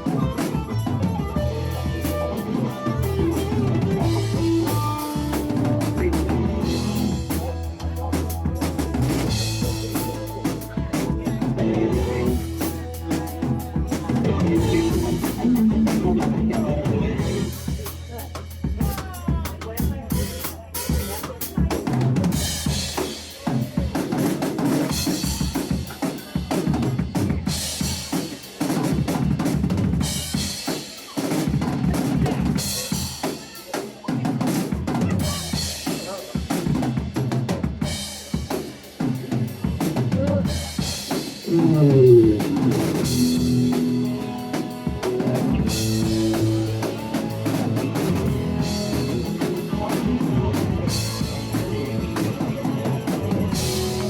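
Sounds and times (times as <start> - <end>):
drum kit beat: 0.0 - 54.0
rock band playing: 0.0 - 54.0.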